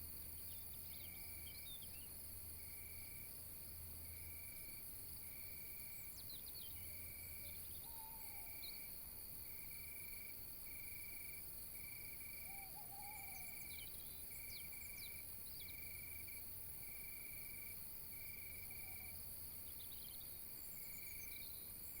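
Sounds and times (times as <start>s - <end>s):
high insect hiss: 0.0s - 22.0s
insect trilling chirp: 4.1s - 22.0s.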